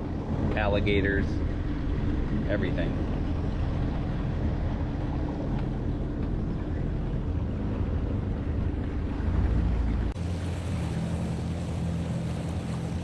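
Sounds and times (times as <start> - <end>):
watercraft engine running: 0.0 - 13.0.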